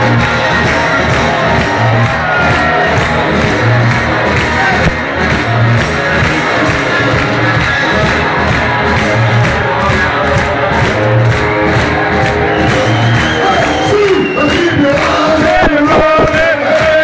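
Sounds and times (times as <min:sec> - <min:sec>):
crowd cheering: 0:00.0 - 0:17.0
drums with steady beat: 0:00.0 - 0:17.0
electric guitar: 0:00.0 - 0:17.0.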